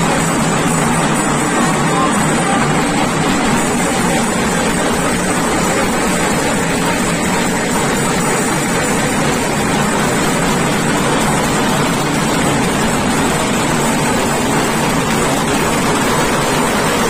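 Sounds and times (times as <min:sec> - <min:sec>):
crowd roar of voices: 0:00.0 - 0:17.0.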